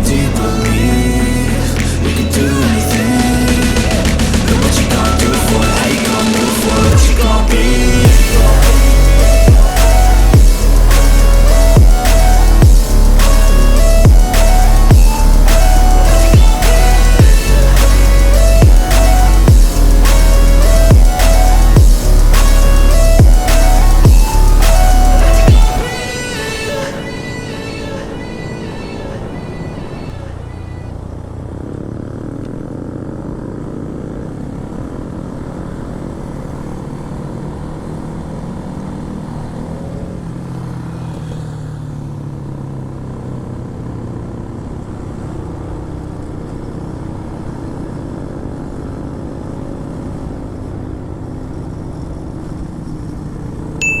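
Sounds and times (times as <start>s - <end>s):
motorbike engine running: 0.0s - 26.0s, 30.2s - 54.0s
wind and road noise: 0.0s - 54.0s.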